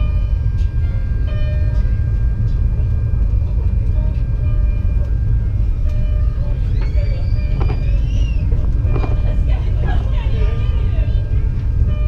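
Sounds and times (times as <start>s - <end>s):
miniature train rumbling on rails: 0.0s - 12.0s.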